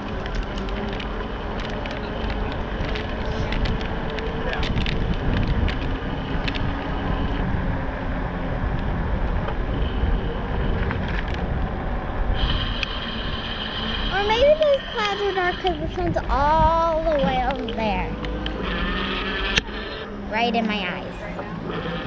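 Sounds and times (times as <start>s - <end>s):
e-bike running noise: 0.0s - 22.0s
faint steady whine: 0.0s - 22.0s
higher steady whine: 0.0s - 22.0s
wind buffeting microphone: 0.0s - 22.0s.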